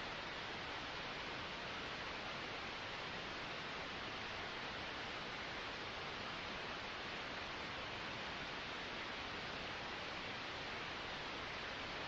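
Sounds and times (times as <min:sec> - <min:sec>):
white noise hiss: 0:00.0 - 0:12.0.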